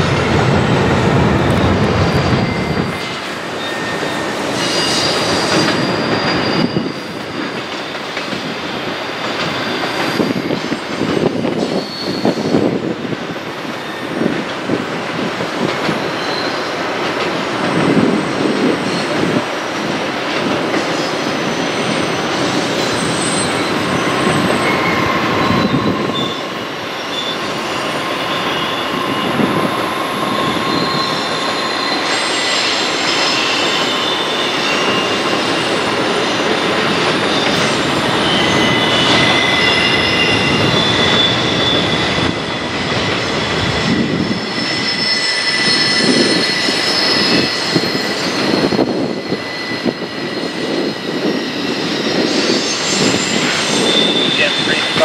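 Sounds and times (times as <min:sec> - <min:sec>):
steel wheels squealing on rail: 0:00.0 - 0:55.0
train rumbling: 0:00.0 - 0:55.0.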